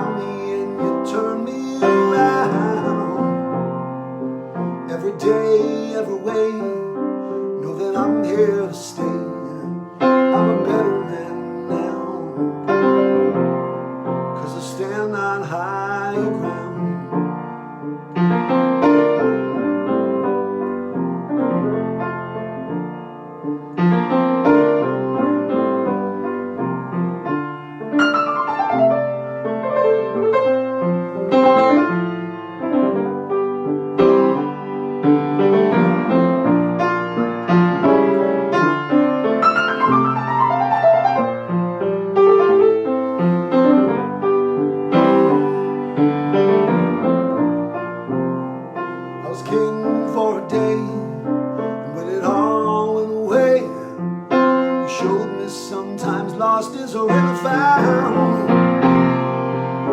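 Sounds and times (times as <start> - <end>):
solo piano: 0.0 - 59.9.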